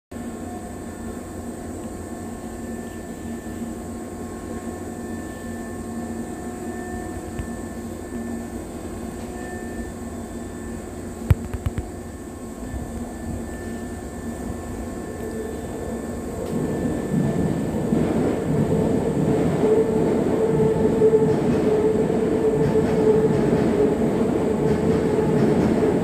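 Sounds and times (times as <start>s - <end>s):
stationary electric train humming: 0.1s - 26.0s
faint constant tones: 0.2s - 26.0s.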